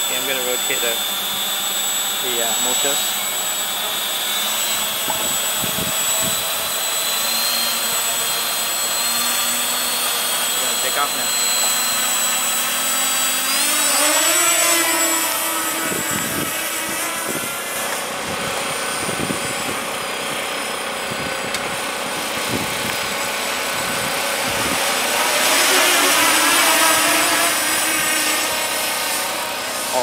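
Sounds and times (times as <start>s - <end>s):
drone propellers buzzing whine: 0.0s - 30.0s.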